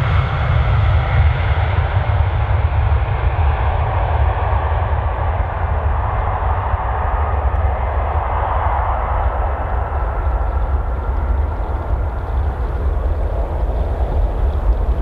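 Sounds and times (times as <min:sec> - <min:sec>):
jet engines at take-off power: 0:00.0 - 0:15.0.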